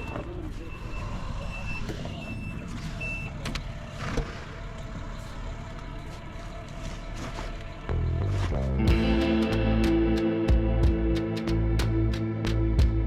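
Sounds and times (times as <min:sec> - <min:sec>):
vehicle engine idling: 0:00.0 - 0:12.1.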